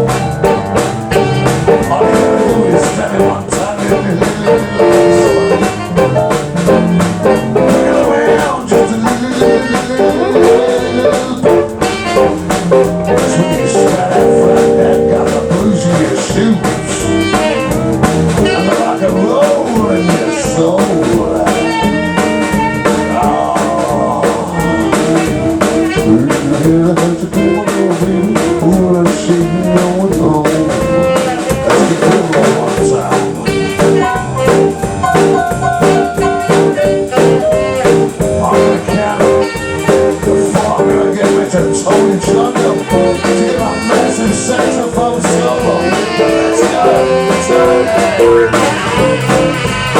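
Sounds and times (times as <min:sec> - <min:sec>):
blues band playing: 0:00.0 - 0:49.9
drum kit: 0:00.0 - 0:49.9
electric guitar: 0:00.0 - 0:49.9.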